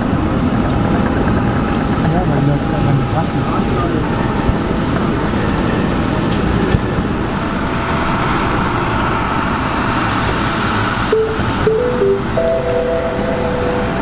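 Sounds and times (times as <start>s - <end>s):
jet engine whine: 0.0s - 14.0s
jet engines rumbling: 0.0s - 14.0s.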